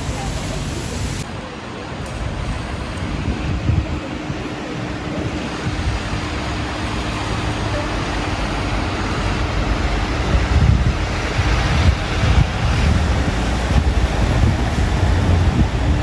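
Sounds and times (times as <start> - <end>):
traffic noise: 0.0 - 16.0
wind buffeting microphone: 0.0 - 16.0.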